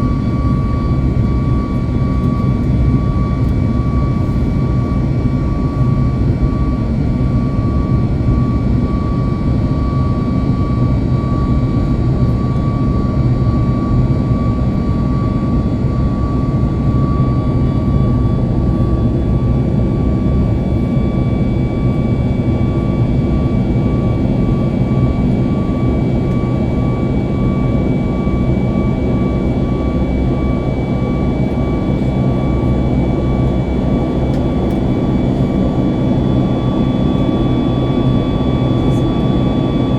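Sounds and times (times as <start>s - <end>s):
jet engines rushing in cabin: 0.0s - 39.9s.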